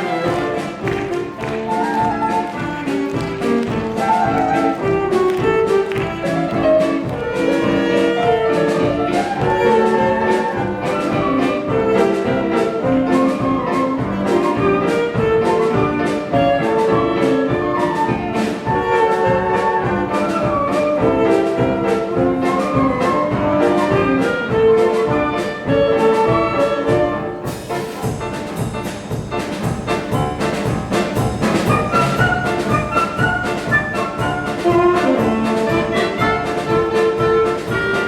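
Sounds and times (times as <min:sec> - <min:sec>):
steady drum beat: 0:00.0 - 0:38.0
wind band playing: 0:00.0 - 0:38.0.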